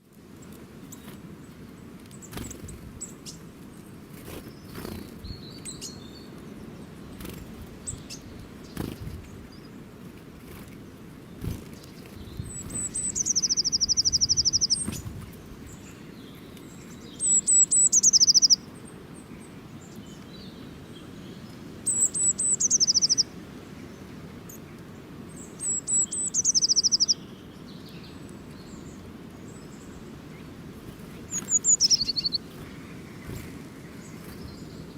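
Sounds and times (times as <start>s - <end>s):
outdoor background hiss: 0.0s - 34.9s
songbird singing with trill: 4.5s - 9.8s, 11.4s - 34.9s.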